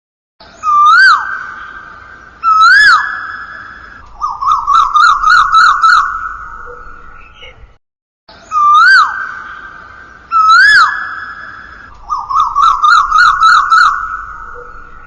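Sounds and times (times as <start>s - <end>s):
bird whistling song: 0.5s - 7.6s, 8.4s - 15.0s.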